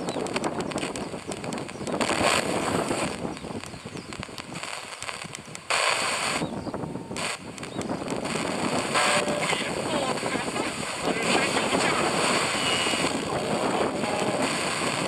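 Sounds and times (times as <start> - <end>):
radio static hiss: 0.0 - 15.0
radio tuning clicks: 0.0 - 15.0.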